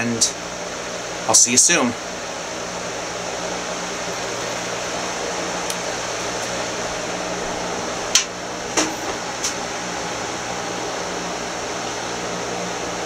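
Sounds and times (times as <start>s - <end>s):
fan-like hiss: 0.0s - 13.0s.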